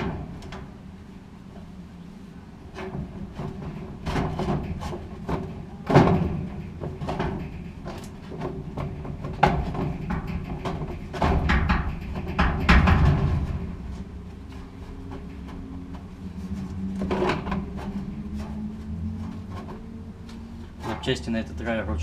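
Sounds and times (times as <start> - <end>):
knocks and clatter of parts handled: 2.7 - 21.2.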